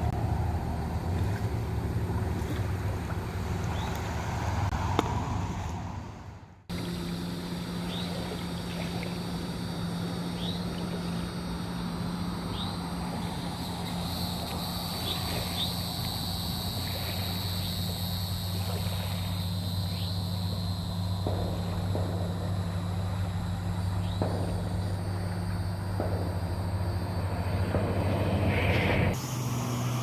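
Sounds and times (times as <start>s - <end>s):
steady low engine hum: 0.0s - 30.0s.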